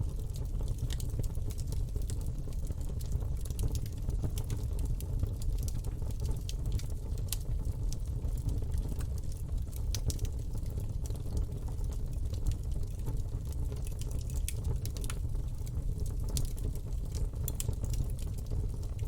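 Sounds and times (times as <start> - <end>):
flame rumbling: 0.0 - 19.0
burning wood crackling: 0.1 - 19.0.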